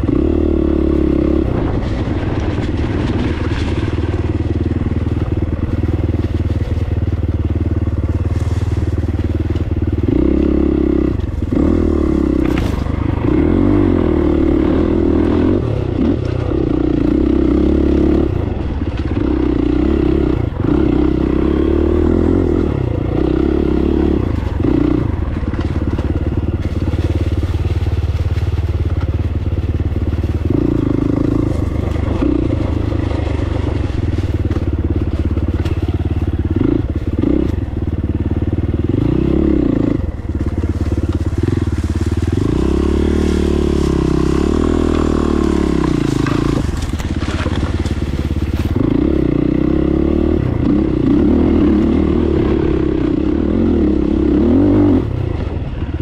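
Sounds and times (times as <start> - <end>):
dirt bike engine revving: 0.0 - 55.2.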